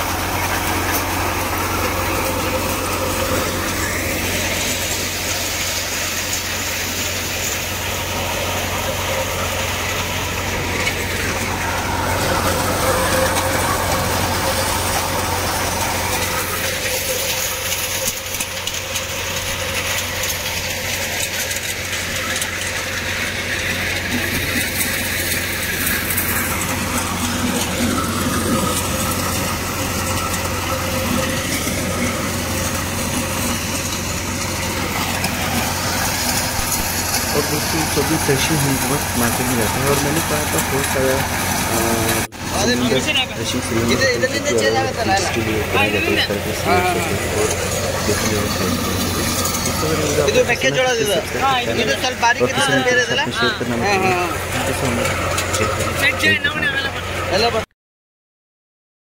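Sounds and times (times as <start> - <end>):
thresher machine noise: 0.0 - 57.7
tractor engine drone: 0.0 - 57.7.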